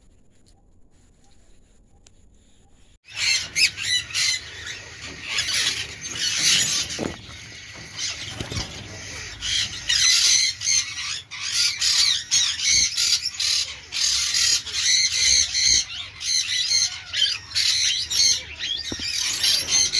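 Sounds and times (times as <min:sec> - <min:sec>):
cockatiels calling: 0:03.1 - 0:19.9.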